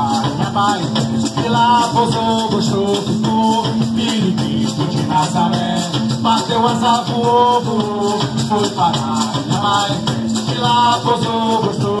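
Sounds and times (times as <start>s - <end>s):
lead voice singing: 0.0s - 12.0s
maracas and drums beat: 0.0s - 12.0s.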